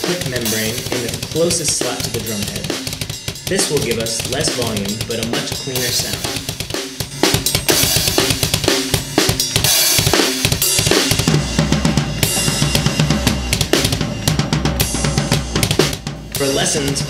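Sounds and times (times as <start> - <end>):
drum kit groove: 0.0 - 17.0
kick drum clicks: 0.0 - 17.0.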